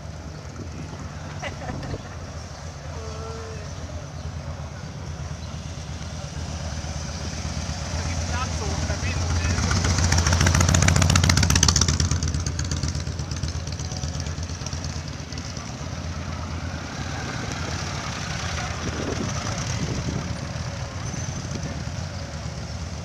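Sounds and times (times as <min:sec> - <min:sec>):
motorcycle engines idling: 0:00.0 - 0:23.0.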